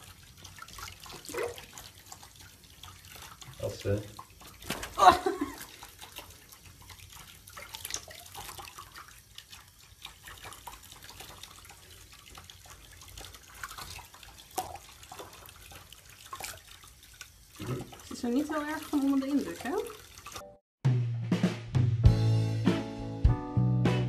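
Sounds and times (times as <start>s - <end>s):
water splashing and dripping: 0.0s - 20.6s.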